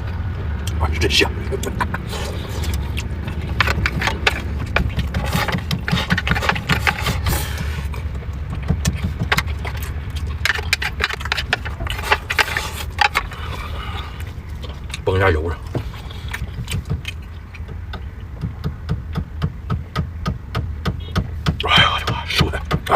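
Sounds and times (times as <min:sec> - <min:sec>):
low rumble: 0:00.0 - 0:19.9.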